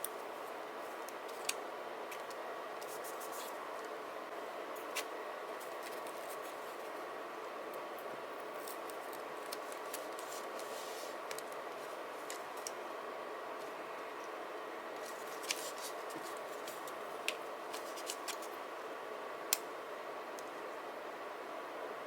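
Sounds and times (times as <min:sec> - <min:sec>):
steady hiss: 0:00.0 - 0:18.6.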